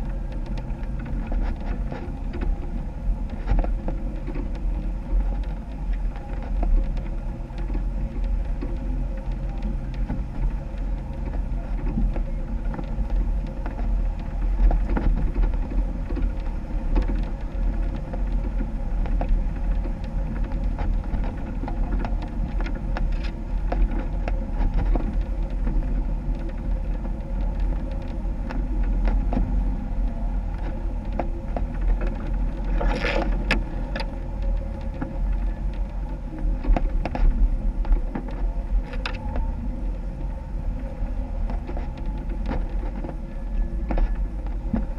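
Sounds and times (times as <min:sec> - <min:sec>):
car engine rumbling: 0:00.0 - 0:44.9.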